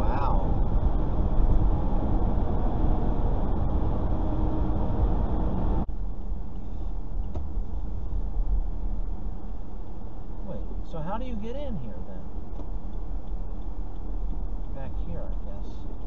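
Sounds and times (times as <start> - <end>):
dull car cabin hum: 0.0 - 16.0
tyre and engine rumble: 0.0 - 16.0.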